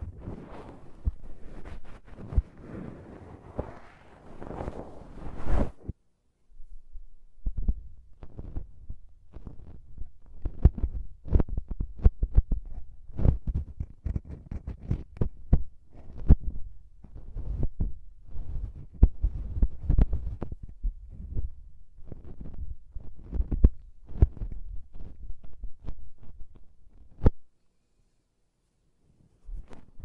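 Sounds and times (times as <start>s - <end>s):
cotton pads brushing microphone: 0.0s - 5.9s, 7.4s - 27.4s, 29.4s - 30.0s.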